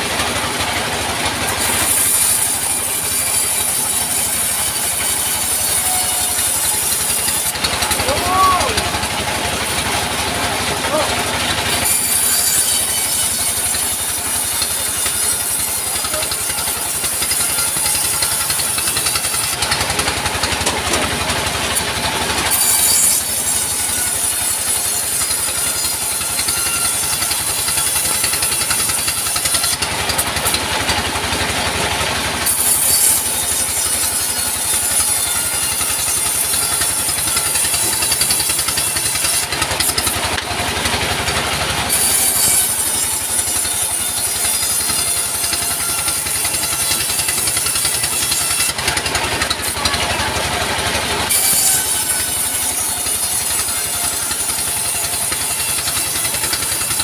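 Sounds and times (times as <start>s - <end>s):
bandsaw cutting timber: 0.0s - 57.0s
diesel engine running: 0.0s - 57.0s.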